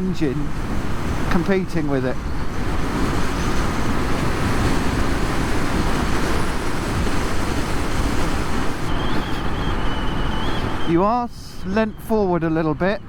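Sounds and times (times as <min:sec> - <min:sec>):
wind rushing past helmet: 0:00.0 - 0:11.0.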